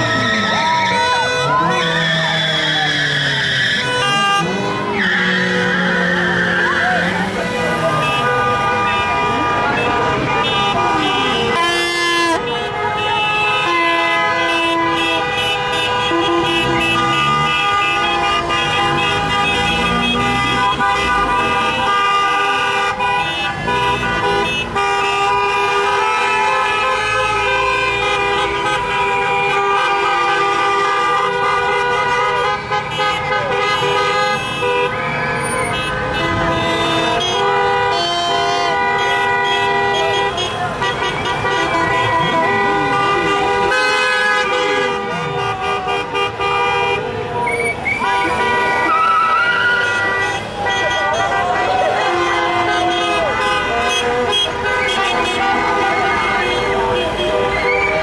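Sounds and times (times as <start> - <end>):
car horns honking: 0.0 - 58.0
passing traffic: 0.0 - 58.0.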